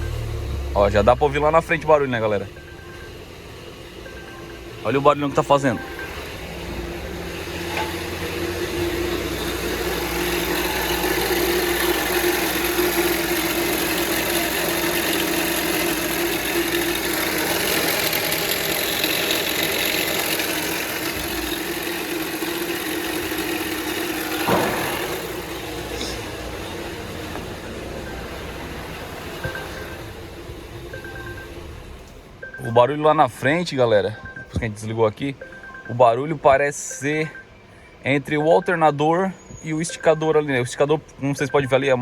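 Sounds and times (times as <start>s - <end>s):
engine running with whine: 0.0s - 42.0s.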